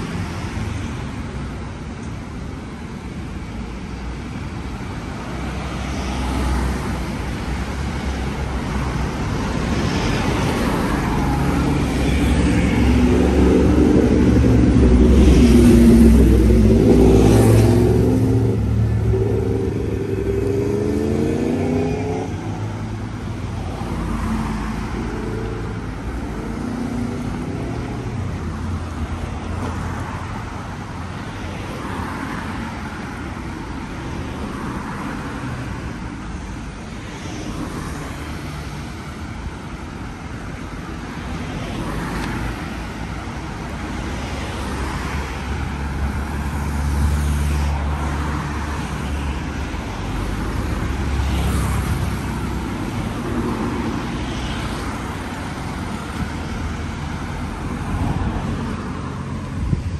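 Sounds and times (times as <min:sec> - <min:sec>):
cars passing on street: 0:00.0 - 0:59.9.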